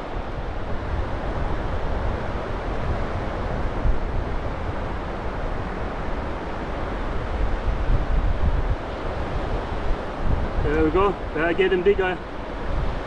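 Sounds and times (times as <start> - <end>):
surf on shore: 0.0 - 13.0
wind buffeting microphone: 0.0 - 13.0.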